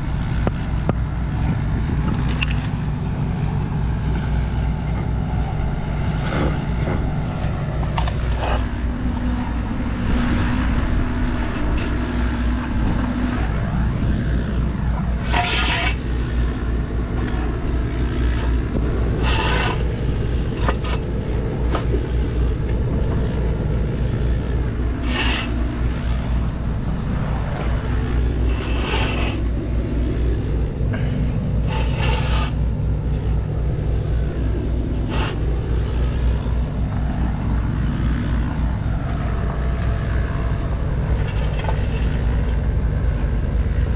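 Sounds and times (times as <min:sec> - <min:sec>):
engine humming: 0:00.0 - 0:43.9.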